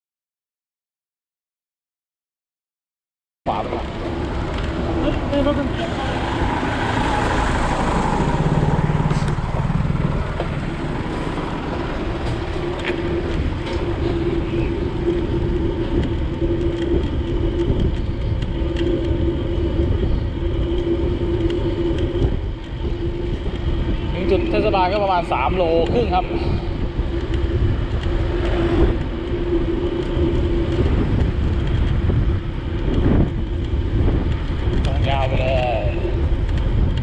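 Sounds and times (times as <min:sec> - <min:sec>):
low hum: 0:03.5 - 0:37.0
road traffic noise: 0:03.5 - 0:37.0.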